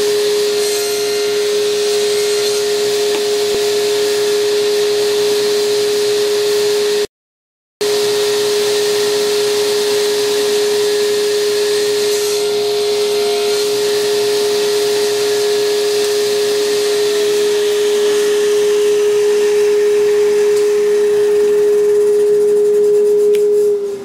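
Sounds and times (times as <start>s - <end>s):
power tool motor whining: 0.0s - 7.0s, 7.8s - 24.0s.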